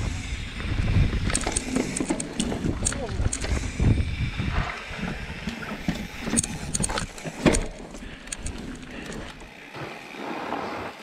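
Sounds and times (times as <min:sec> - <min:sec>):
bike chain rattling and clicking: 0:00.0 - 0:10.2
bike tyres rolling on dirt: 0:00.0 - 0:11.0.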